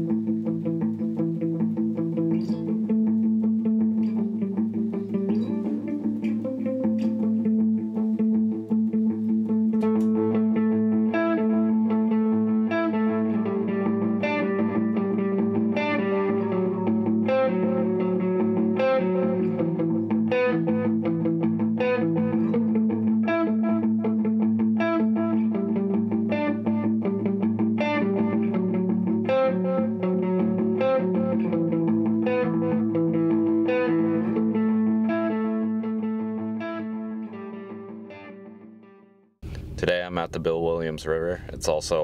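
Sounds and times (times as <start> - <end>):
guitar background music: 0.0 - 42.0.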